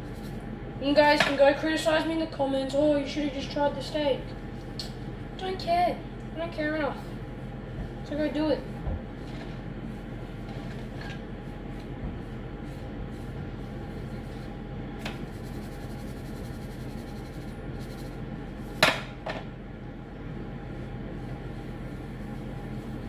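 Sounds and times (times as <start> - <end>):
air fryer fan hum: 0.0 - 23.0.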